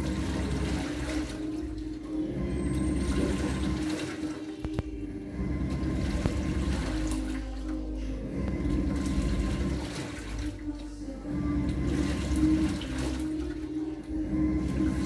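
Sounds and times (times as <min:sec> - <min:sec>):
motor hum: 0:00.0 - 0:15.0
washing machine water churning: 0:00.0 - 0:15.0.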